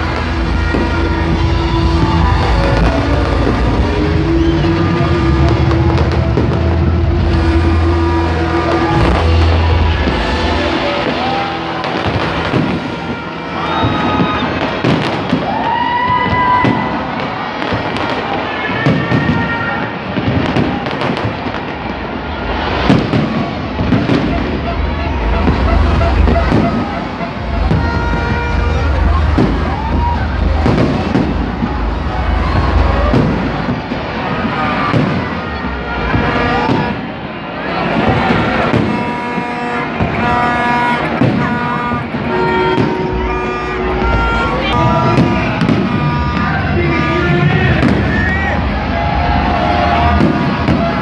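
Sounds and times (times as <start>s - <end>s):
fireworks bangs: 0.0s - 51.0s
fireworks crackling: 0.0s - 51.0s
many horns tooting: 0.0s - 51.0s.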